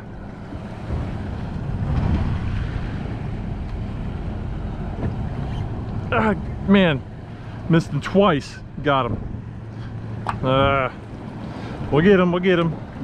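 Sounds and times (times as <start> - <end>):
choppy water: 0.0 - 13.0
low steady rumble: 0.0 - 13.0
wind buffeting microphone: 0.0 - 13.0.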